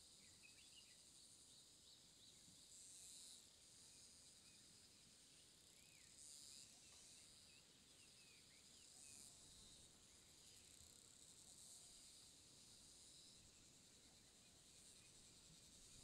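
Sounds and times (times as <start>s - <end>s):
insect chorus buzzing: 0.1s - 16.0s.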